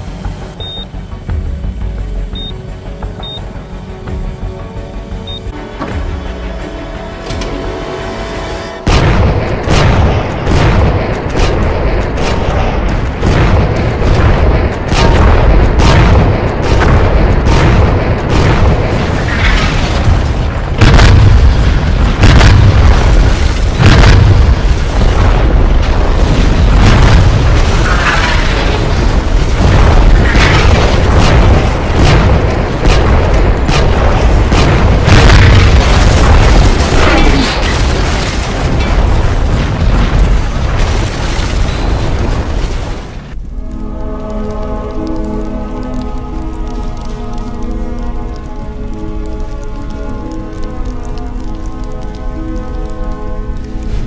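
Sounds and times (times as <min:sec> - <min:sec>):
background music: 0:00.0 - 0:40.4, 0:43.3 - 0:54.0
heavy low rumble: 0:00.0 - 0:54.0
explosions and booming impacts: 0:08.8 - 0:54.0.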